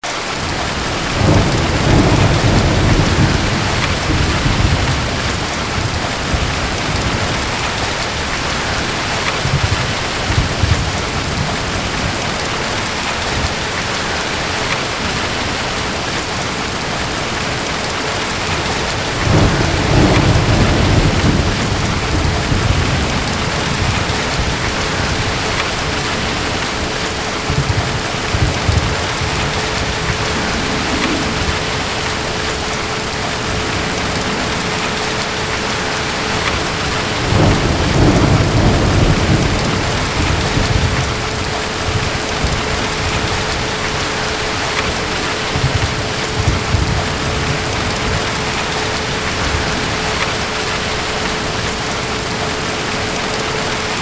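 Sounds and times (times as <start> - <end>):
heavy rain: 0.0 - 54.0
distant thunder rumbling: 0.4 - 53.4.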